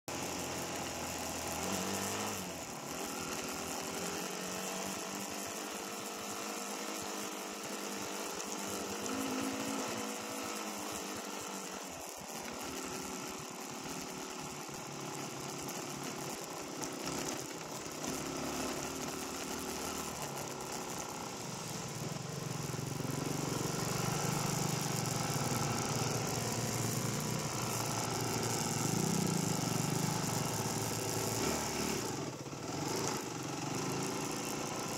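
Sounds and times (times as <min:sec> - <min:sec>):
dirt bike engines revving: 0:00.1 - 0:34.9.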